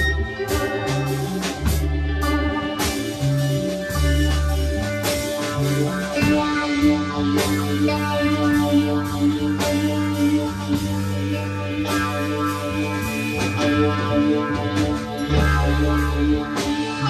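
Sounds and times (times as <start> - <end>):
electric guitar: 0.0 - 17.0
long held bass notes: 0.0 - 17.0.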